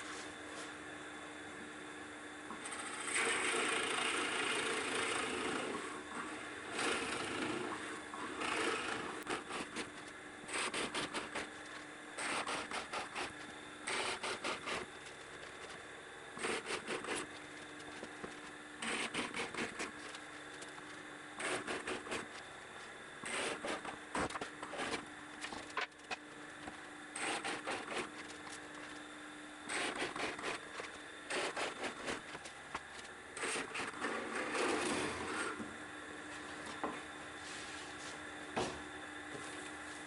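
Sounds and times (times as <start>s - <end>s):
drill press motor hum: 1.0s - 40.0s.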